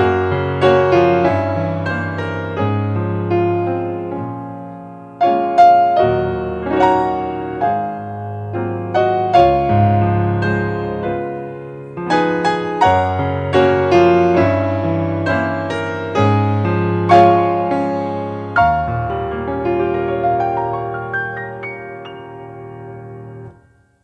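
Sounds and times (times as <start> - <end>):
solo piano music: 0.0 - 24.0.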